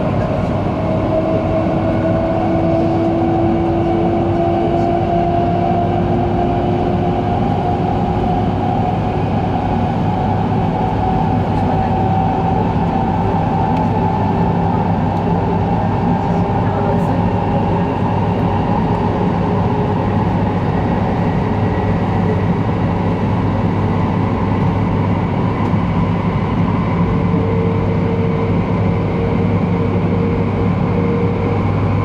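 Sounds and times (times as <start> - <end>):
train cabin rumble: 0.0 - 32.0.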